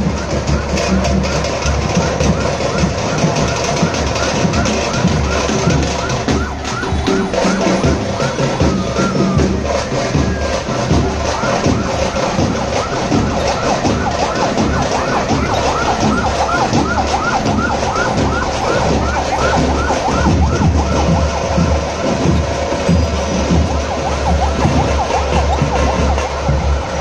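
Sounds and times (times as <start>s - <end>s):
crowd noise: 0.0s - 27.0s
loud steady drumming: 0.0s - 27.0s
siren-like wail: 0.0s - 27.0s.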